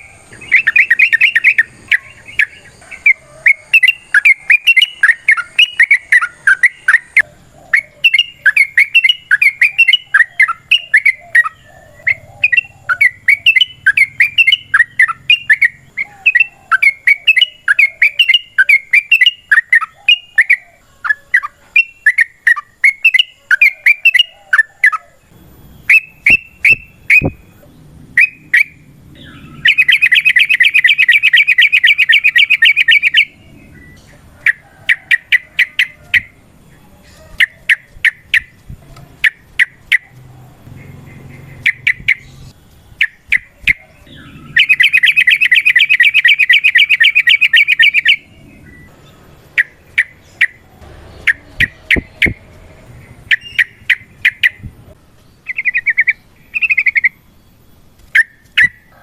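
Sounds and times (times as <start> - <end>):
fast rattling bird trill: 0.0 - 25.0, 25.8 - 36.4, 37.3 - 57.2
bulbul chirping: 0.0 - 36.4, 37.3 - 59.0.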